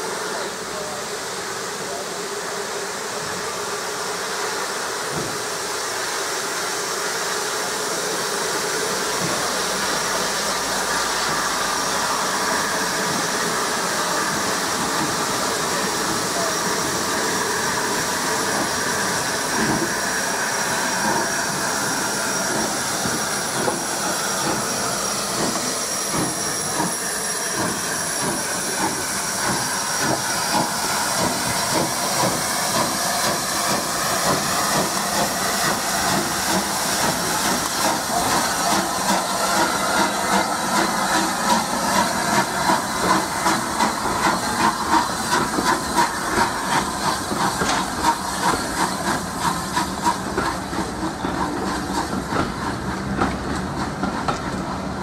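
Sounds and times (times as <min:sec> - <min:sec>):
steam hissing: 0:00.0 - 0:54.8
steam locomotive exhaust beats: 0:00.0 - 0:55.0.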